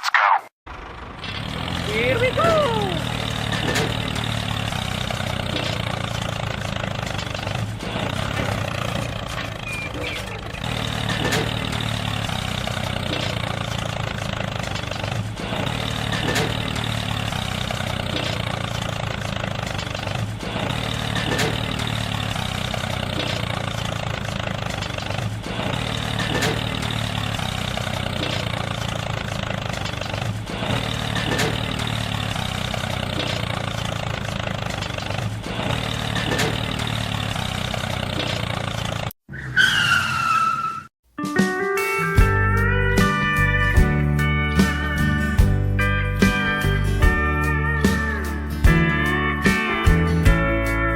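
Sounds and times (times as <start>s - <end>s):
tractor engine running: 0.7s - 39.2s, 42.1s - 50.9s.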